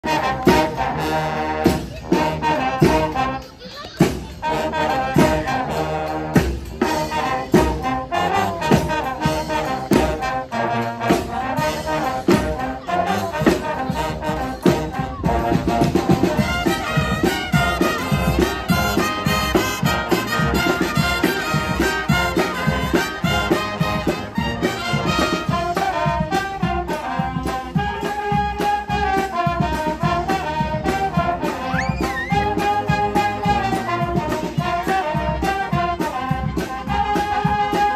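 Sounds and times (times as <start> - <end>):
brass band playing: 0.0 - 37.9
steady drum beat: 0.0 - 37.9.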